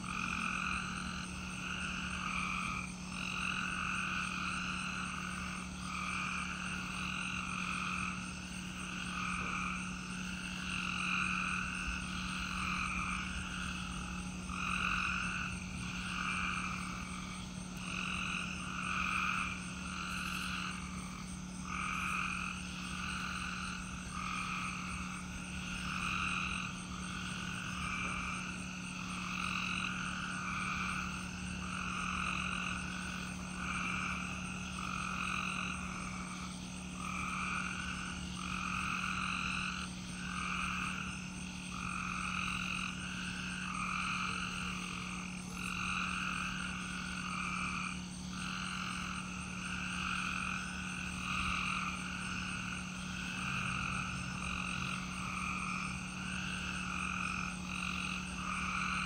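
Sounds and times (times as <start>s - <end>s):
cricket trill: 0.0s - 59.0s
steady low hum: 0.0s - 59.0s.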